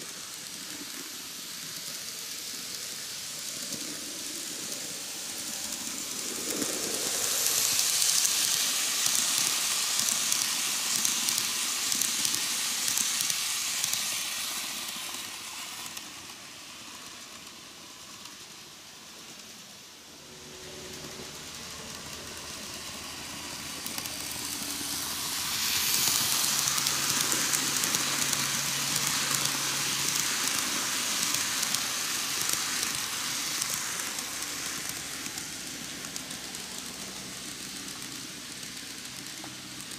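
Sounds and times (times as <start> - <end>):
model train wheels hissing on rail: 0.0 - 39.9.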